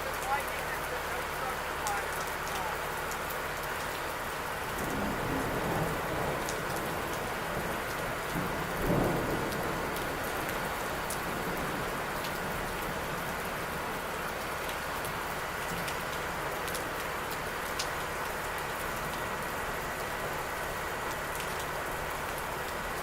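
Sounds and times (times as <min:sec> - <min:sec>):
heavy rain: 0:00.0 - 0:23.0
raindrops ticking close by: 0:00.0 - 0:23.0
thunder rumbling: 0:04.3 - 0:23.0.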